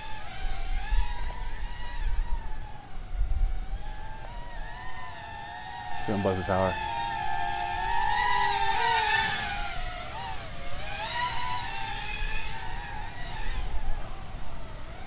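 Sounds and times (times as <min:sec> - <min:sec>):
toy quadcopter motors whining: 0:00.0 - 0:15.0.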